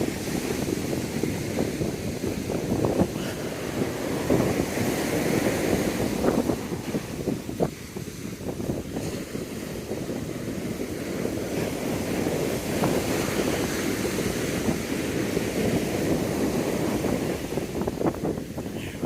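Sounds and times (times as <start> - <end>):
surf: 0.0 - 19.0
wind: 0.0 - 19.0.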